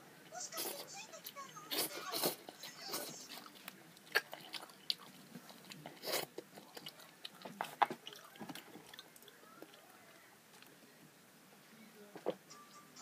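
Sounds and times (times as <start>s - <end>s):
boy slurping and chewing noodles: 0.3s - 10.8s.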